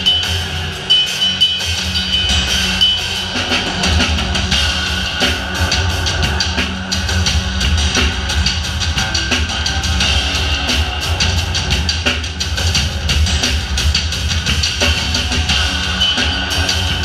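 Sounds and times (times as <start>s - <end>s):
fast drum beats: 0.0s - 17.0s
heavy bass: 0.0s - 17.0s.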